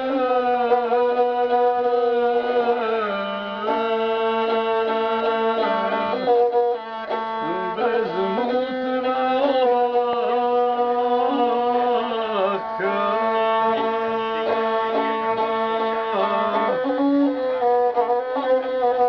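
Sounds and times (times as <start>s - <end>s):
bowed string instrument: 0.0s - 19.0s
man singing: 0.0s - 19.0s.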